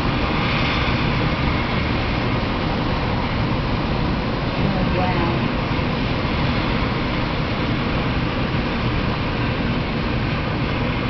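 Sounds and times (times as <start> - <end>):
thunderstorm rushing roar: 0.0 - 11.0.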